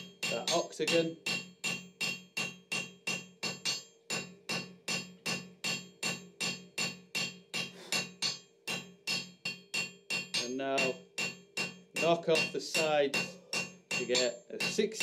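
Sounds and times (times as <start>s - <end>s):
hammer striking steel on anvil: 0.0s - 15.0s.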